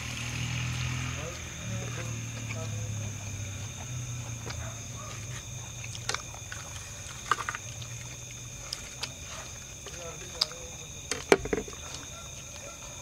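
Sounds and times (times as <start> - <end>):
chewing and mouth noises: 1.2 - 13.0.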